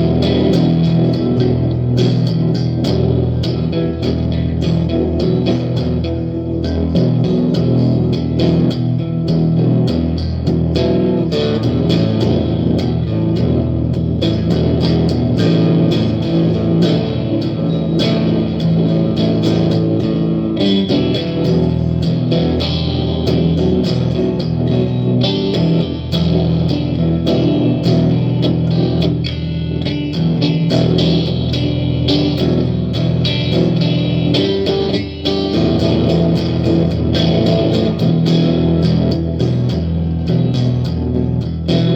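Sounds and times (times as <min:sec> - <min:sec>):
electric guitar playing: 0:00.0 - 0:41.9.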